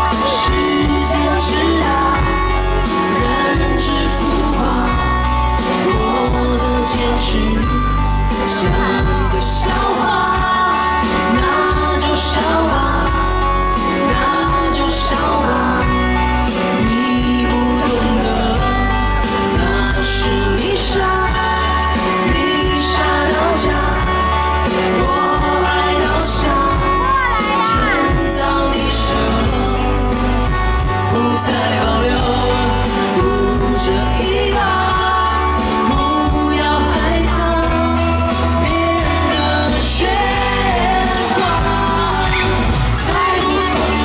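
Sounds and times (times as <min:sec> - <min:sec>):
heavy bass line: 0:00.0 - 0:44.0
woman singing: 0:00.0 - 0:44.0.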